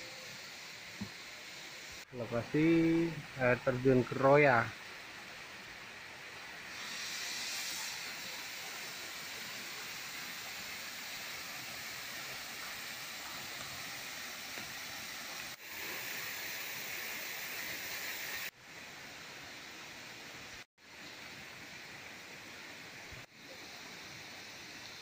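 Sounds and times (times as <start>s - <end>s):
waterfall rushing hiss: 0.0s - 25.0s.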